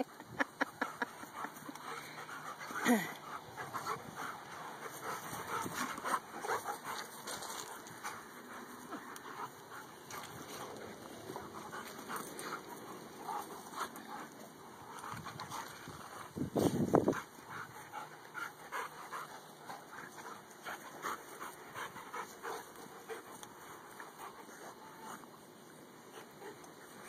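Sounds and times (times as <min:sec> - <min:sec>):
dogs panting: 0:00.0 - 0:27.0
dogs scuffling and mouthing: 0:00.2 - 0:27.0.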